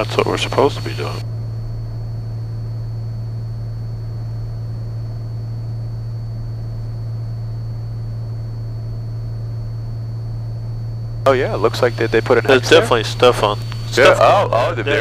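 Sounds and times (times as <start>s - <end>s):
plane engine and propeller drone: 0.0s - 1.2s, 2.8s - 15.0s
faint high whine: 0.0s - 15.0s.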